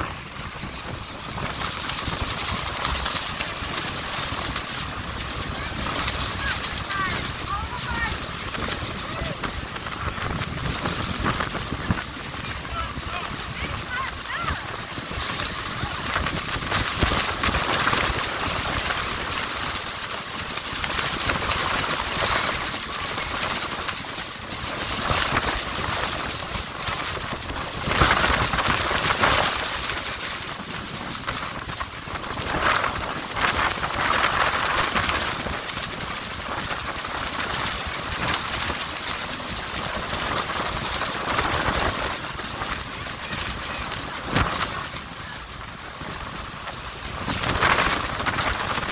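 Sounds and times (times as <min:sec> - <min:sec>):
churning water rushing: 0:00.0 - 0:48.9
wind buffeting microphone: 0:00.0 - 0:48.9.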